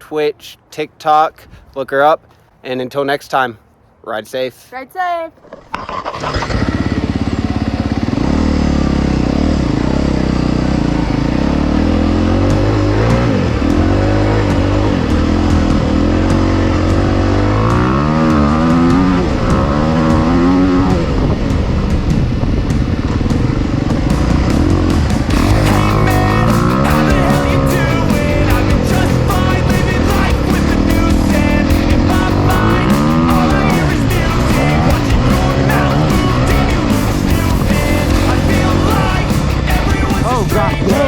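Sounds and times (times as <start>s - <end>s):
dirt bike engine revving: 5.7s - 41.0s.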